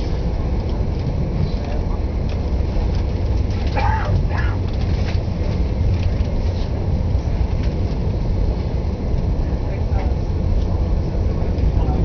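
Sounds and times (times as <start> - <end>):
train rumbling inside coach: 0.0 - 12.0
wheel and track noise: 0.0 - 12.0.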